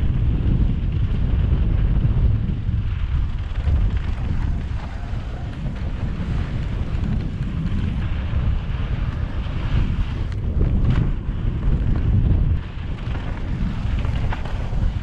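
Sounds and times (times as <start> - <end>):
wind buffeting microphone: 0.0 - 15.0
tyres hissing on dirt trail: 2.7 - 15.0.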